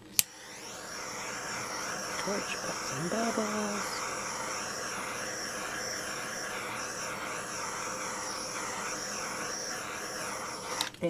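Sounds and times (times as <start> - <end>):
butane torch flame hissing: 0.0 - 11.0.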